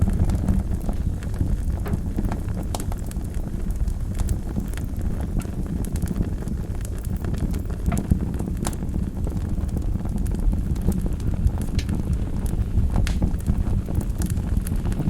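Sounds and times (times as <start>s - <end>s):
burning logs crackling and popping: 0.0s - 15.0s
wood fire rumbling and hissing: 0.0s - 15.0s.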